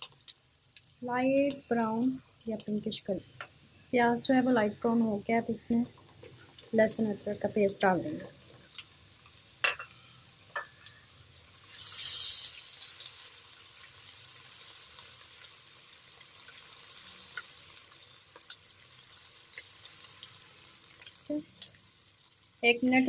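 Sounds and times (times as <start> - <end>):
onions sizzling in hot oil: 0.0 - 23.0.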